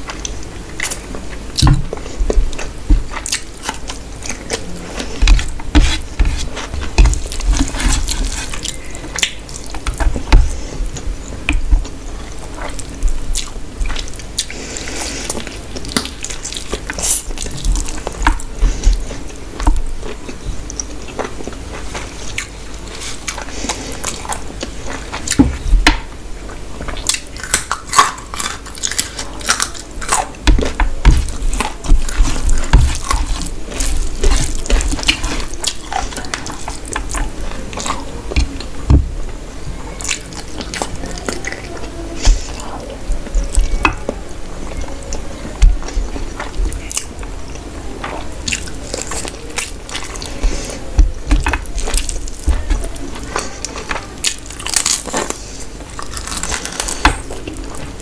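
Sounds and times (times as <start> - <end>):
person chewing with mouth smacks: 0.0 - 25.7, 26.4 - 38.9, 39.9 - 58.0.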